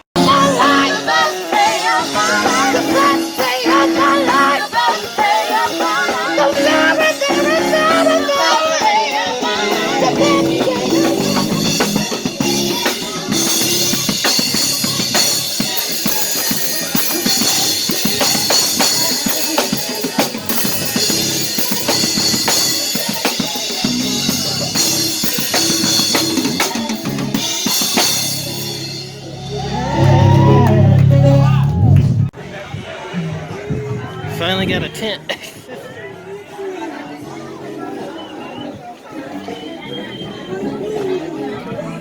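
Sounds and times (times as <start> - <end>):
music with drum kit: 0.0 - 34.0.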